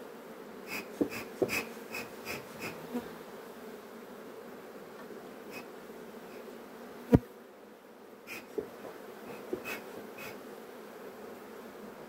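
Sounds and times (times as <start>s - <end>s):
bees humming: 0.0s - 12.0s.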